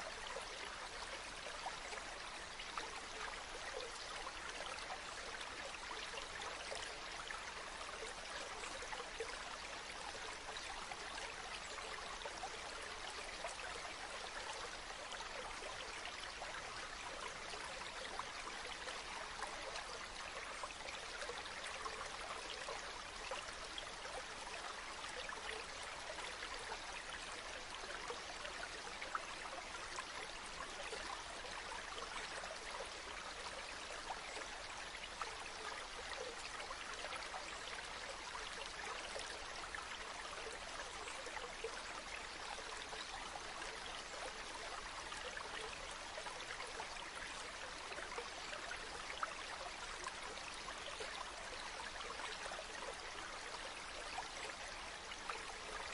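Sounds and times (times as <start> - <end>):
stream trickling and splashing: 0.0 - 55.9.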